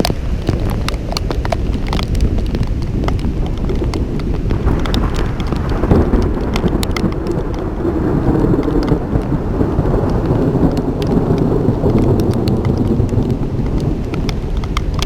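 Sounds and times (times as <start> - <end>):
raindrops ticking close by: 0.0 - 15.0
steady rain: 0.0 - 15.0
rolling thunder: 0.3 - 15.0.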